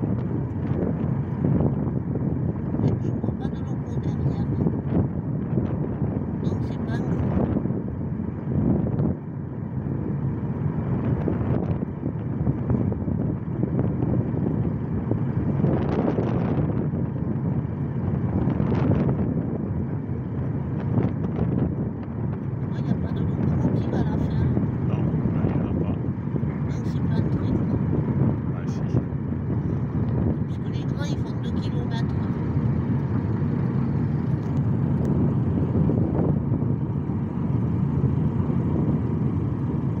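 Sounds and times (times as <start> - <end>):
car driving on highway: 0.0 - 40.0
low rumble: 0.0 - 40.0
wind buffeting microphone: 0.0 - 40.0.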